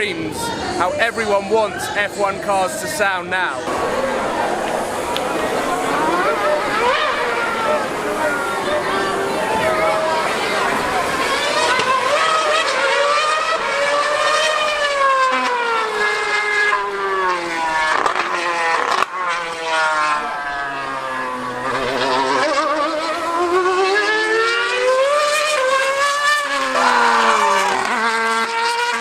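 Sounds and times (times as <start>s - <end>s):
racing car engine screaming: 3.6s - 29.0s.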